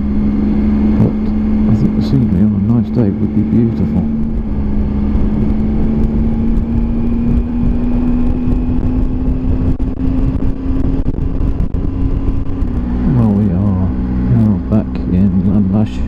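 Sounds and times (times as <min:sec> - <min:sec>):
motorcycle engine cruising: 0:00.0 - 0:16.0
wind rumble on microphone: 0:00.0 - 0:16.0.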